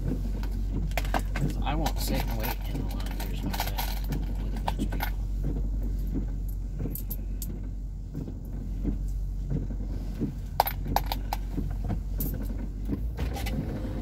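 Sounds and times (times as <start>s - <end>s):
soft low thumps: 0.0s - 13.2s
car engine idling: 0.0s - 14.0s.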